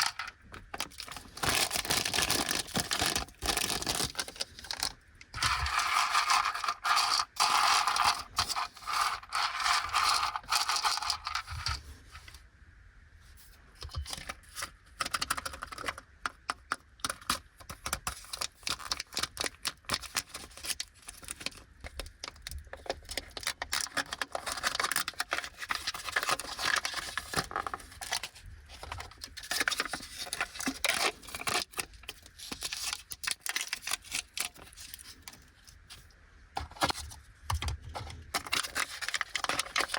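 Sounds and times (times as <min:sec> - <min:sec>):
plastic packaging crinkling: 0:00.0 - 0:11.8, 0:17.0 - 0:36.0, 0:38.3 - 0:39.9.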